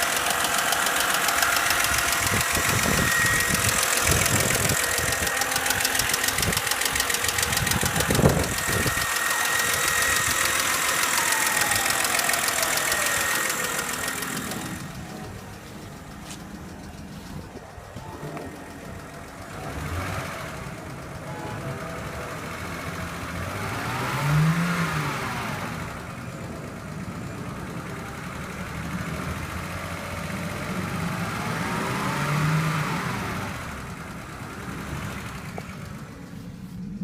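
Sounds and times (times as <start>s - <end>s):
car engine revving: 0.0s - 37.0s
engine ticking: 0.0s - 37.0s.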